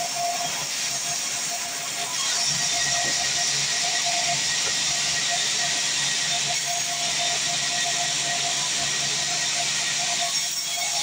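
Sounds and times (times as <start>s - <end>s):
bandsaw cutting log: 0.0s - 11.0s.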